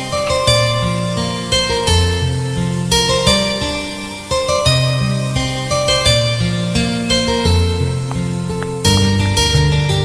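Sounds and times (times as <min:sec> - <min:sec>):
soft plucked guitar melody: 0:00.0 - 0:10.0.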